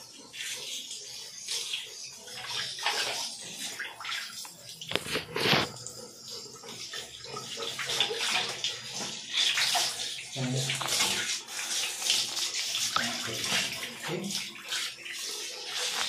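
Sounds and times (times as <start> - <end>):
shower water splashing: 0.0 - 16.0.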